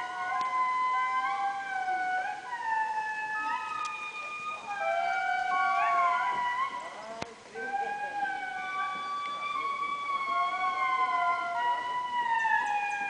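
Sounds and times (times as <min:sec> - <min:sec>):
indris howling in chorus: 0:00.0 - 0:13.0.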